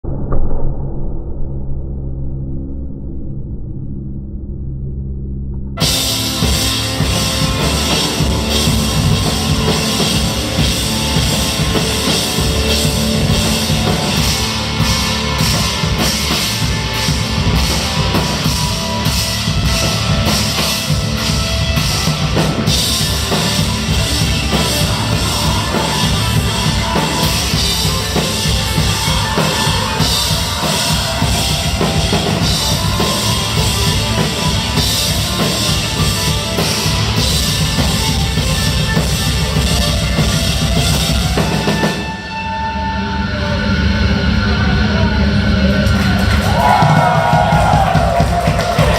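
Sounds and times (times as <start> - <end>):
drum kit: 5.8 - 42.7, 43.4 - 48.9
rock band playing loud: 5.8 - 48.9.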